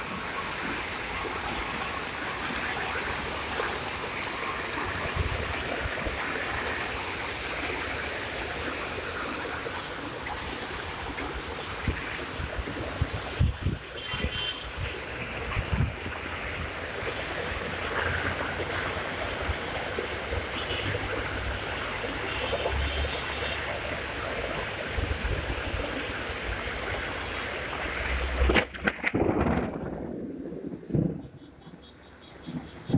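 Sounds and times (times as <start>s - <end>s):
heavy rain and rushing water: 0.0s - 32.9s.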